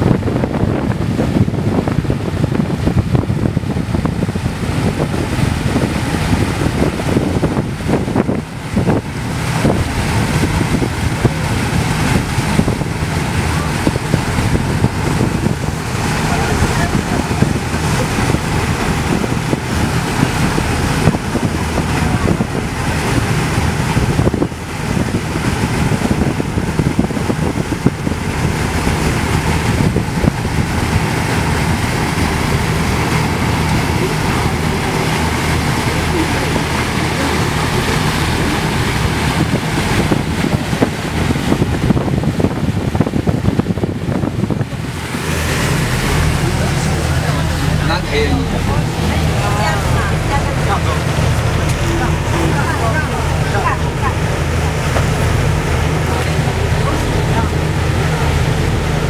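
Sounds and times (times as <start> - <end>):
boat engine humming: 0.0 - 59.0
water rushing along hull: 0.0 - 59.0
wind buffeting microphone: 0.0 - 59.0.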